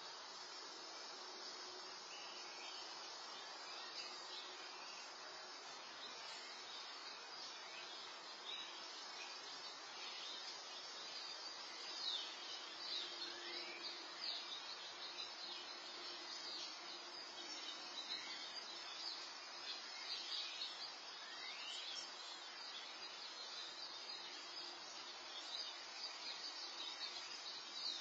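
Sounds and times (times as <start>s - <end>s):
small birds chirping: 0.0s - 28.0s
steady hiss: 0.0s - 28.0s.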